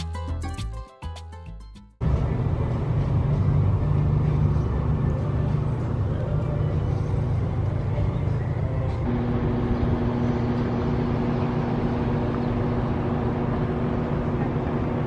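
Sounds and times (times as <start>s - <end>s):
mechanical hum with low rumble: 2.0s - 15.0s.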